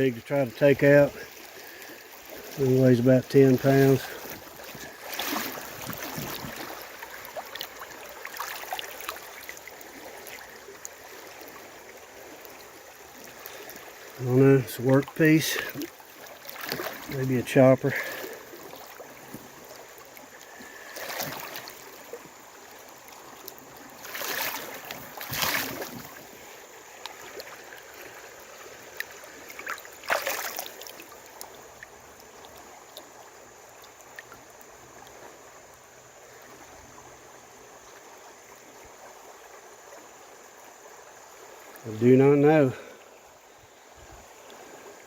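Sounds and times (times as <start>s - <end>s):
creek water running: 0.0s - 45.0s
water splashing and sloshing: 0.0s - 45.0s.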